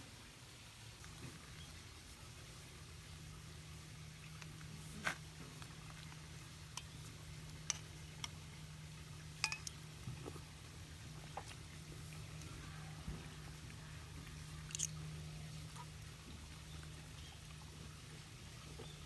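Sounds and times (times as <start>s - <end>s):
steady low hum: 1.9s - 19.0s.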